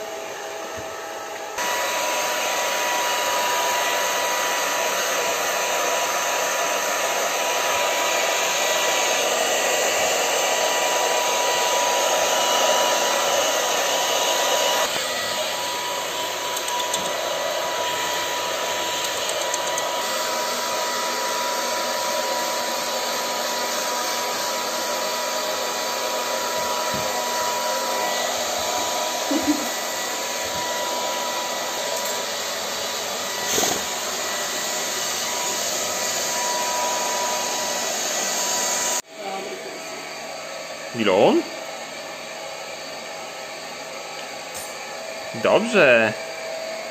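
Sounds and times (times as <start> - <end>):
hair dryer blowing: 0.0 - 46.9.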